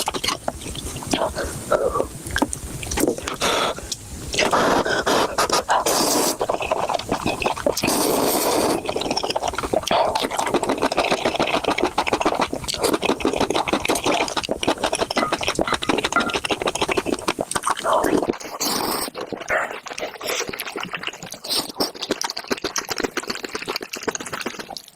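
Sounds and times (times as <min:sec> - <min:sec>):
chewing noodles and bread: 0:00.0 - 0:24.9
mouth clicks: 0:00.0 - 0:24.9.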